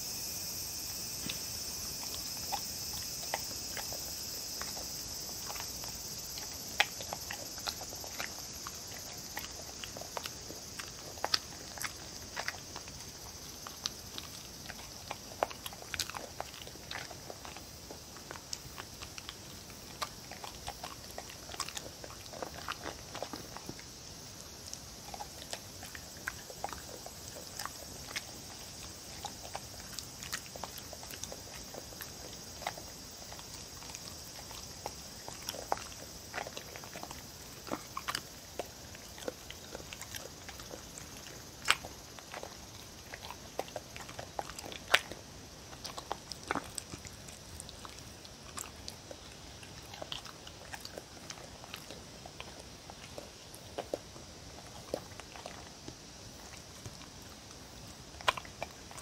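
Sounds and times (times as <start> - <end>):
dog chewing food: 0.1 - 59.0.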